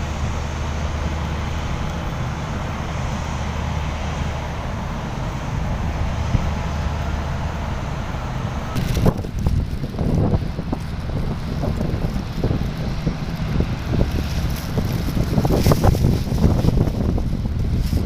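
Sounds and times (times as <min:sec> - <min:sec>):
large engine droning: 0:00.0 - 0:18.0.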